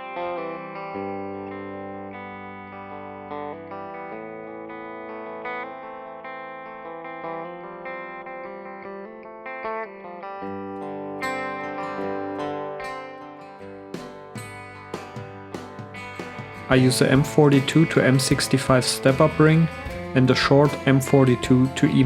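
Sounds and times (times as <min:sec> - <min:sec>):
guitar playing effects-laden notes: 0:00.0 - 0:22.0.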